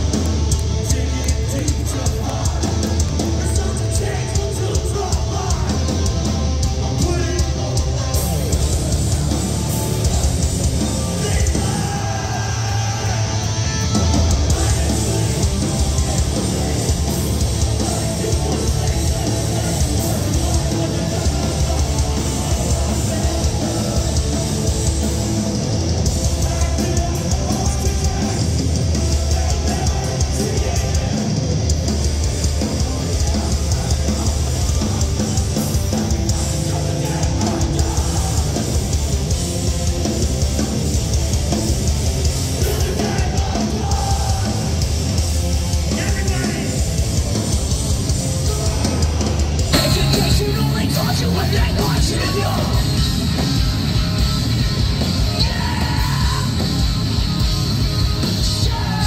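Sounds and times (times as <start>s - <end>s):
distorted electric guitars: 0.0s - 59.0s
drums: 0.0s - 59.0s
rock vocals: 0.0s - 59.0s.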